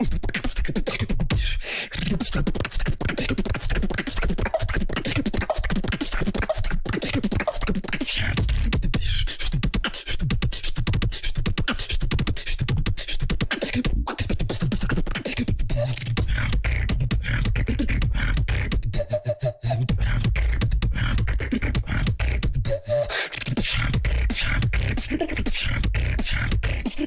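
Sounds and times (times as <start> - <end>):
beatboxing into a microphone: 0.0 - 27.0.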